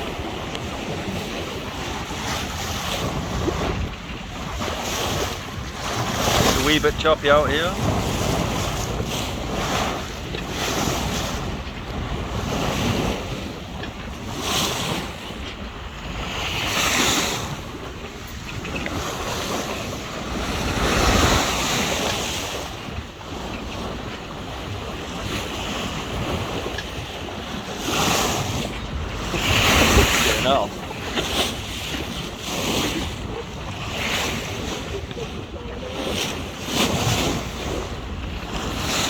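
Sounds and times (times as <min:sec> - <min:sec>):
sea splashing along hull: 0:00.0 - 0:39.0
wind buffeting microphone: 0:00.0 - 0:39.0.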